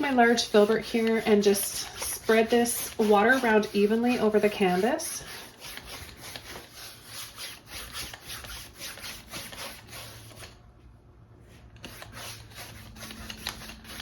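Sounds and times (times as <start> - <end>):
brush rubbing on canvas: 0.0 - 10.6, 11.8 - 14.0.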